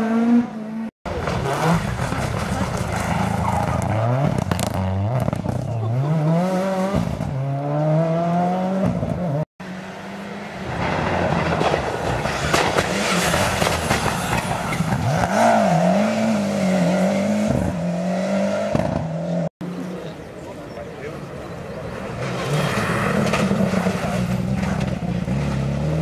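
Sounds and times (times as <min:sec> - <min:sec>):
rally car engine accelerating: 0:00.0 - 0:19.5, 0:21.8 - 0:26.0.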